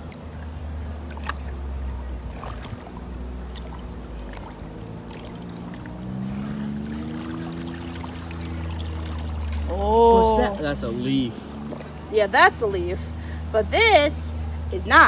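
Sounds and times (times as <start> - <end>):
steady low hum: 0.0 - 15.0
water sloshing in a sluice: 0.0 - 15.0.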